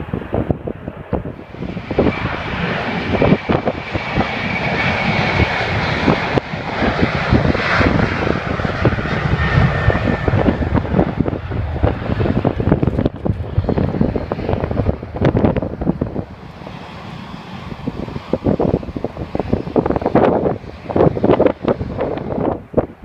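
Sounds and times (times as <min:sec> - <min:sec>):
jet airliner engines roaring: 0:00.0 - 0:23.0
wind buffeting microphone: 0:00.0 - 0:23.0.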